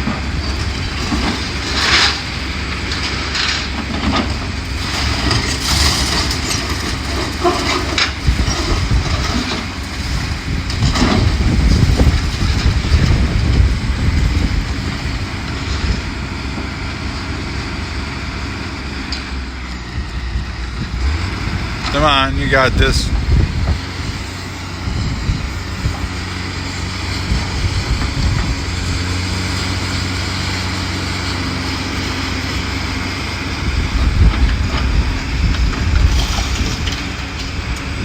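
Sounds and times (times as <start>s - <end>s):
demolition machine rumbling: 0.0s - 38.0s
debris crashing: 0.2s - 16.8s, 21.1s - 38.0s.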